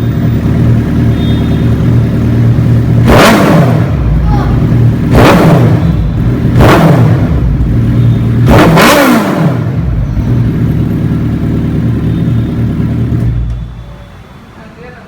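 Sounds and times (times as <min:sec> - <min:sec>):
motorcycle engine revving and idling: 0:00.0 - 0:14.6.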